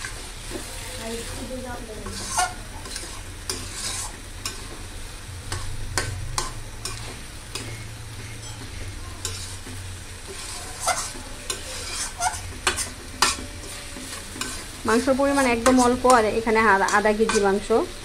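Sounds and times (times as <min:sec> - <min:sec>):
spatula scraping and knocking pan: 0:00.0 - 0:04.9, 0:05.5 - 0:17.8
meat and onions sizzling: 0:00.0 - 0:18.0.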